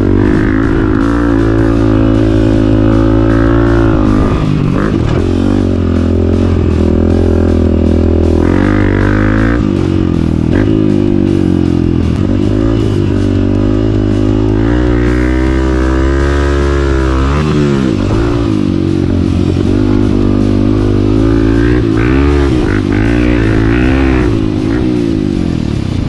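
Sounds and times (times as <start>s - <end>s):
background music: 0.0s - 26.0s
motorcycle engine revving: 0.0s - 26.0s.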